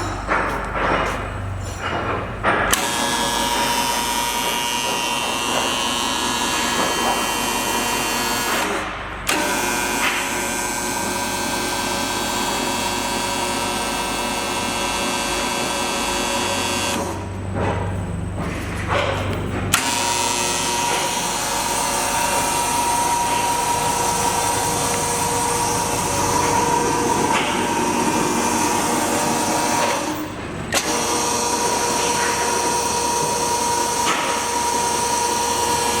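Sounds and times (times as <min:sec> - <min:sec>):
electric drive whining: 0:02.7 - 0:17.3, 0:19.7 - 0:36.0.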